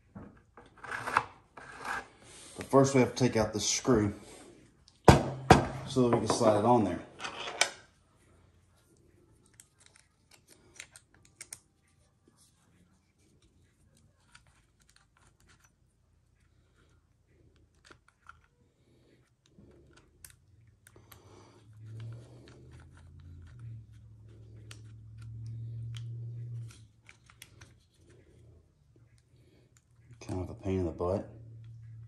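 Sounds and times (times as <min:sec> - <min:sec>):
low steady hum: 0:02.7 - 0:32.0.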